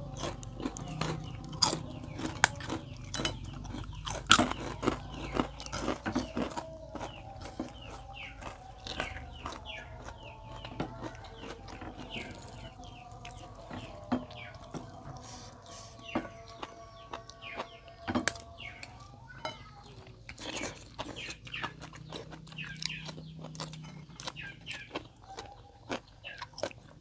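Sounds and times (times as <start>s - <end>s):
crunching fried crackers: 0.0s - 27.0s.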